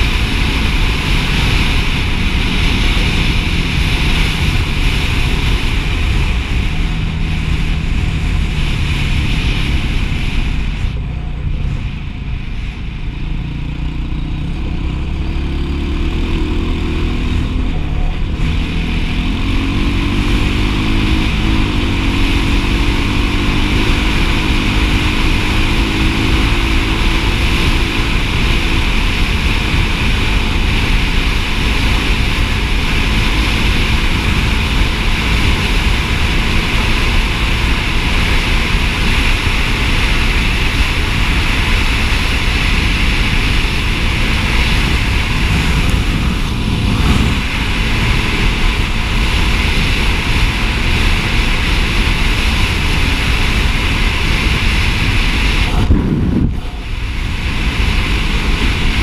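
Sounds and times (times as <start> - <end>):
dirt bike engine running: 0.0 - 59.0
wind rushing on microphone: 0.0 - 59.0.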